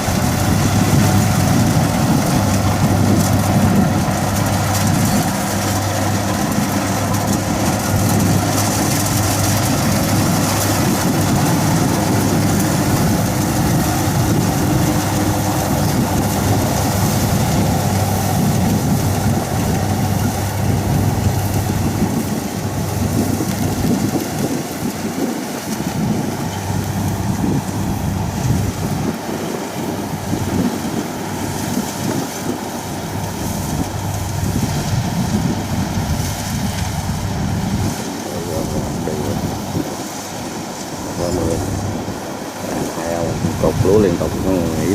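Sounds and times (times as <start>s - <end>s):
combine harvester engine drone: 0.0s - 44.9s.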